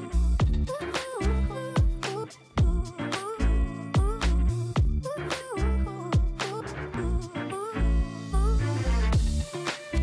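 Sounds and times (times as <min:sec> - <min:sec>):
funk music: 0:00.0 - 0:10.0.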